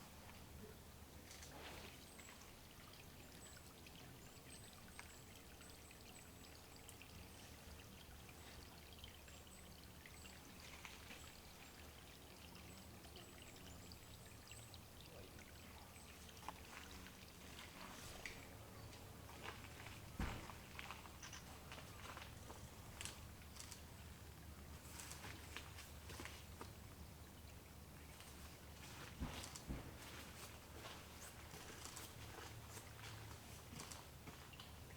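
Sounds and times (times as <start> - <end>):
water trickling and dripping: 0.0 - 34.9.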